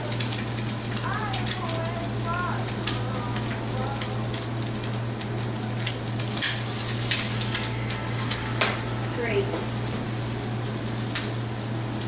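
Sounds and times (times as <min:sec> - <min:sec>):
food sizzling in a frying pan: 0:00.0 - 0:12.0
steady low hum: 0:00.0 - 0:12.0.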